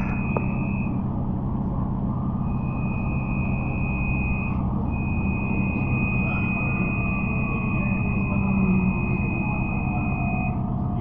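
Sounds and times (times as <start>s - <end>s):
high steady whine: 0.0s - 11.0s
trolleybus rumble: 0.0s - 11.0s.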